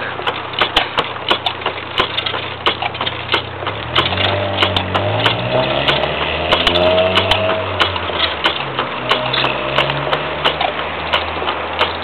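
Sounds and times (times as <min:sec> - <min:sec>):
gouge scraping spinning wood: 0:00.0 - 0:12.0.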